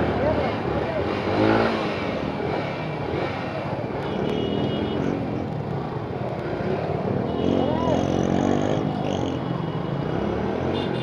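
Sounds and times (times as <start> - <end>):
crowd noise: 0.0 - 10.4
motorcycle engines: 0.0 - 11.0.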